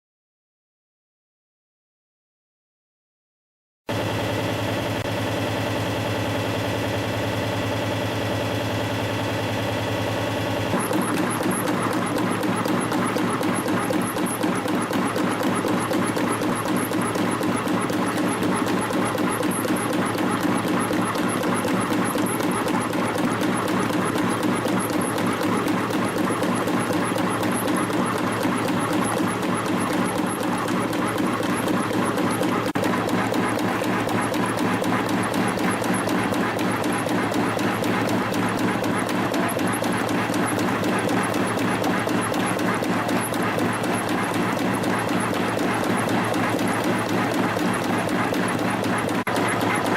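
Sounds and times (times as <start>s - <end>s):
spring coiling machine running: 3.9s - 49.9s.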